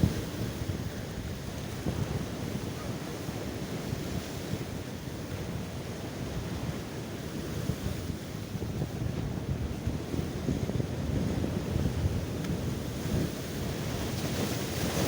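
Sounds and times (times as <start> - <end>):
sea waves breaking on shore: 0.0 - 15.0
wind buffeting microphone: 0.0 - 15.0.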